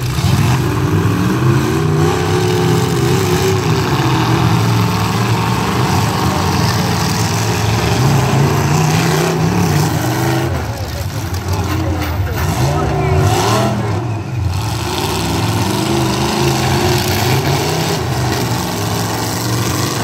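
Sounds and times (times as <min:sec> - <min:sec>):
pickup truck engines revving: 0:00.0 - 0:20.0.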